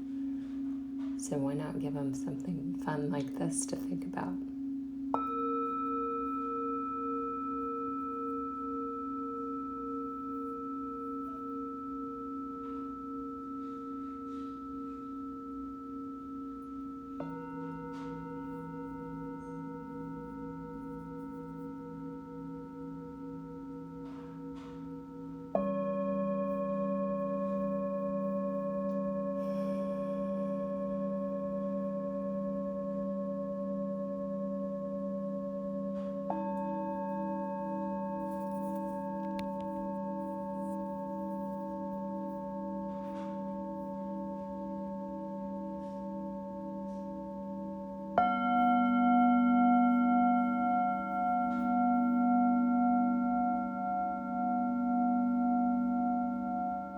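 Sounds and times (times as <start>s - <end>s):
singing bowls ringing: 0.0s - 56.9s
singing bowl struck: 4.4s - 56.9s.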